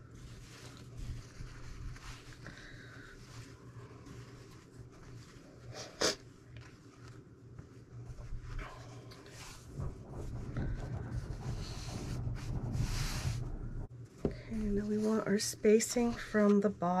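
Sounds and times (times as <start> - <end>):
fabric rustling on ironing surface: 0.0 - 13.9, 14.6 - 17.0
steady low hum: 0.0 - 17.0.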